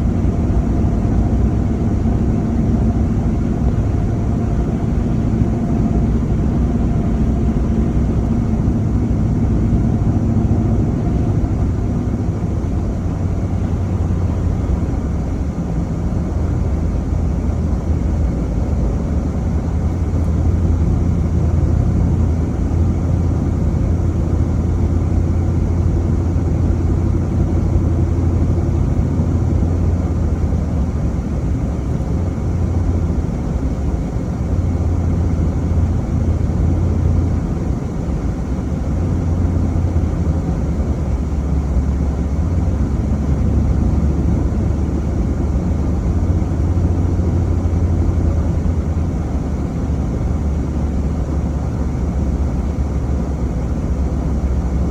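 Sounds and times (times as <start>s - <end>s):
engine and tyre rumble: 0.0s - 54.9s.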